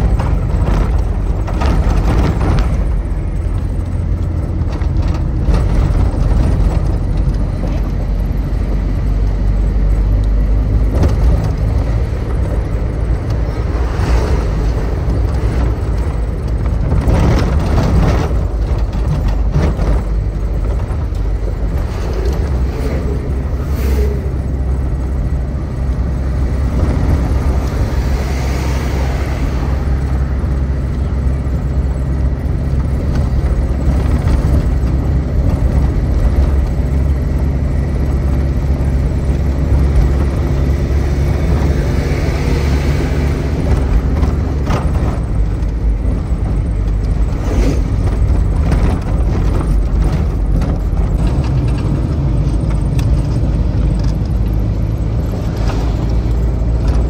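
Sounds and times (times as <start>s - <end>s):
passing traffic: 0.0s - 57.0s
vehicle road and engine rumble: 0.0s - 57.0s.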